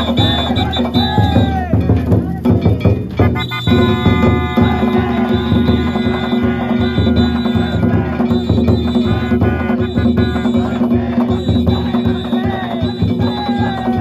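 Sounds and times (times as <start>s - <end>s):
taiko drums beating: 0.0s - 14.0s.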